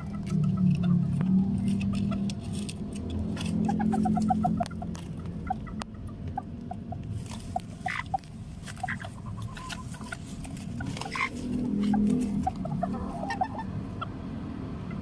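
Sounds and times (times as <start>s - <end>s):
chickens peeping softly: 0.0s - 2.4s, 3.6s - 15.0s.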